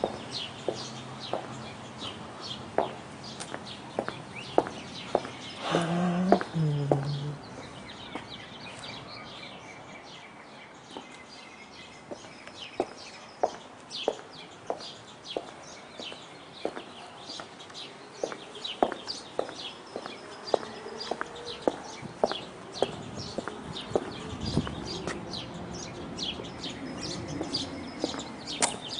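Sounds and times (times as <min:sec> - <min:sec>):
footsteps on brick pavers: 0:00.0 - 0:09.0, 0:10.8 - 0:11.4, 0:12.0 - 0:28.9
small birds chirping: 0:00.0 - 0:28.9.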